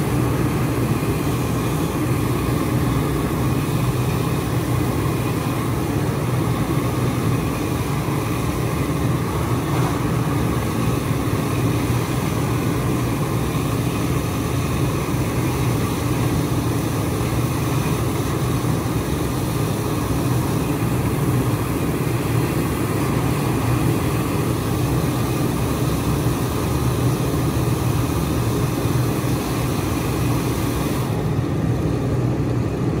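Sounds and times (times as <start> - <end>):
fire engine pump droning: 0.0 - 33.0.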